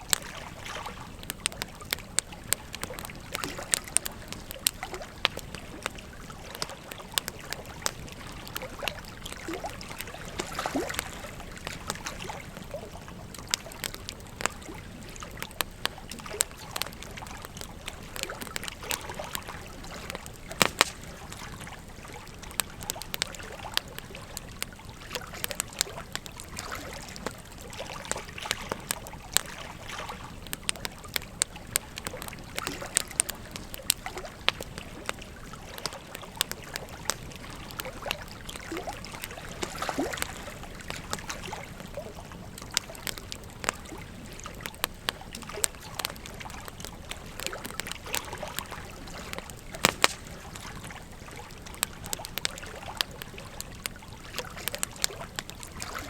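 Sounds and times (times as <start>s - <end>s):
flowing river: 0.0s - 56.0s
wood fire crackling: 0.0s - 56.0s.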